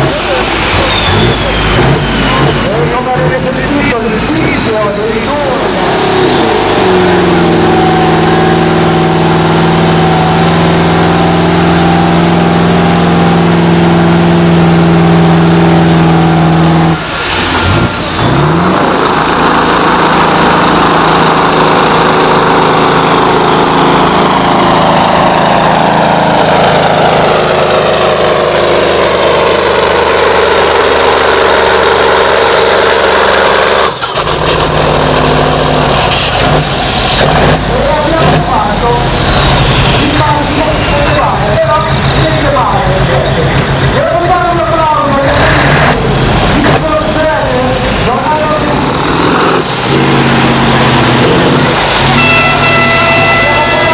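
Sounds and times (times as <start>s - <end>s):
tractor engine roaring: 0.0s - 53.9s.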